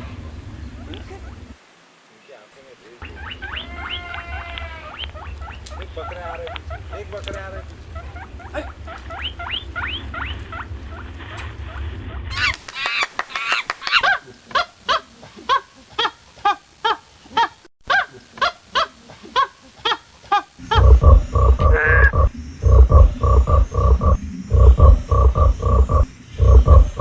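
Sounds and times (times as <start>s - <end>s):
animal calls: 0.0s - 1.6s, 3.0s - 20.0s, 20.6s - 27.0s.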